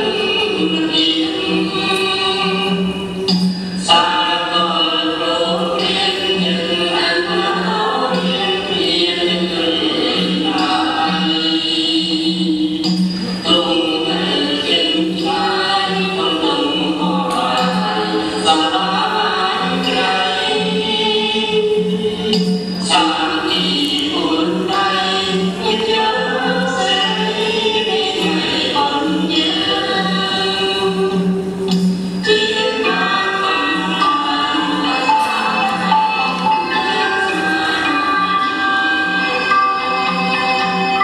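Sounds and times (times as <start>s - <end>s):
bending melodic lines: 0.0s - 41.0s
person singing: 0.0s - 41.0s.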